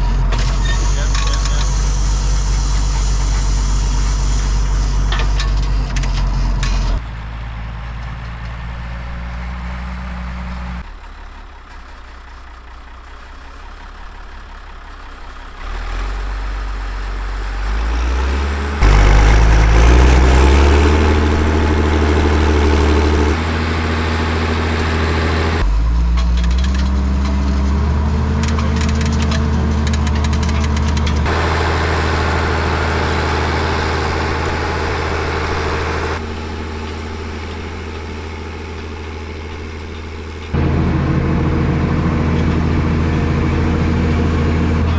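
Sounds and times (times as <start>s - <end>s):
tractor engine working under load: 0.0s - 44.9s.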